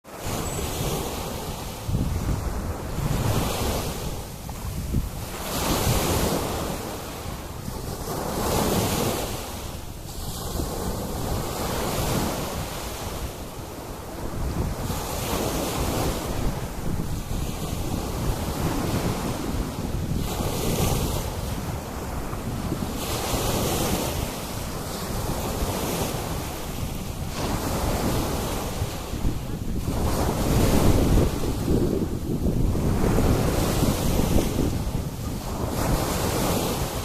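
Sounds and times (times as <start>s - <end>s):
sea waves breaking: 0.0s - 37.0s
wind buffeting microphone: 0.1s - 37.0s.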